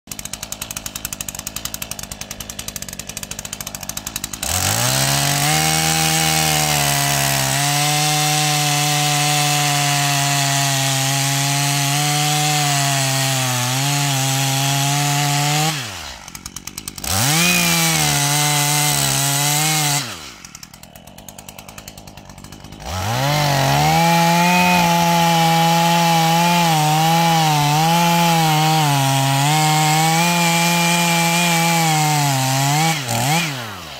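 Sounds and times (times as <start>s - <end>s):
chainsaw idling and revving: 0.1s - 33.9s.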